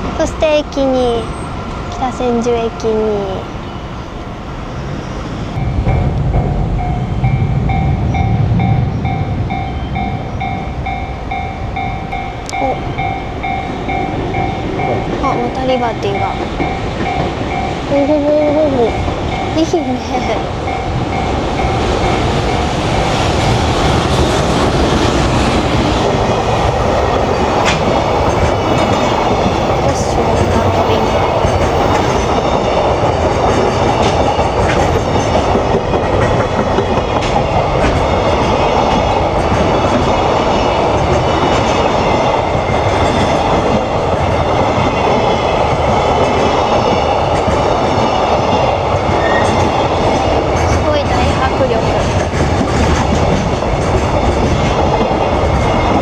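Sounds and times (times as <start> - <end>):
train wheels rumbling on rails: 0.0 - 56.0
clicks of train wheels: 10.8 - 56.0.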